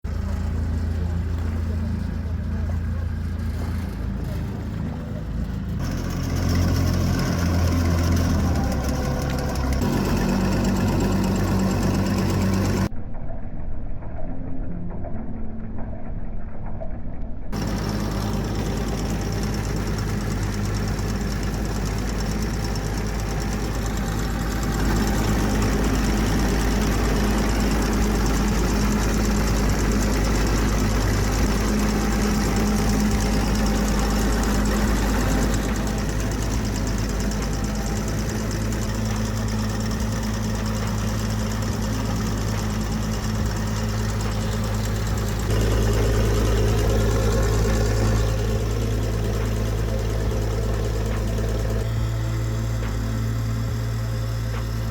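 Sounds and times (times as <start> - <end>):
boat engine running: 0.0 - 13.4, 17.5 - 54.9.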